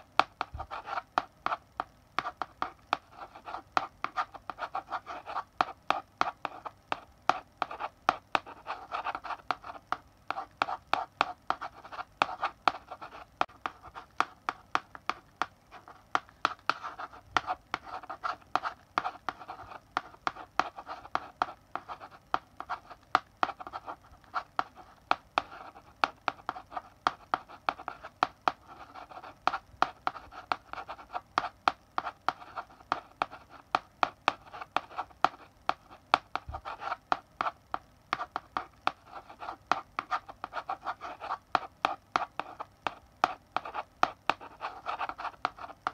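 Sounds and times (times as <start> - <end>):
chalk writing on a blackboard: 0.0 - 45.9.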